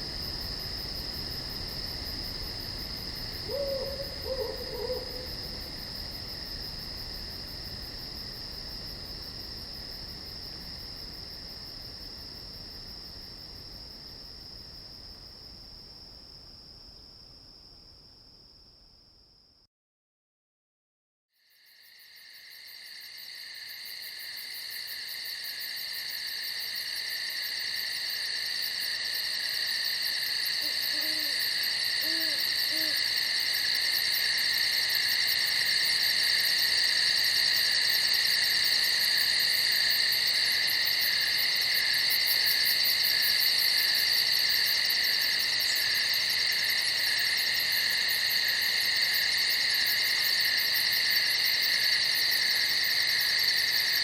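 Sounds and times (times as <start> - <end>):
crickets chirping: 0.0 - 19.7, 21.4 - 54.0.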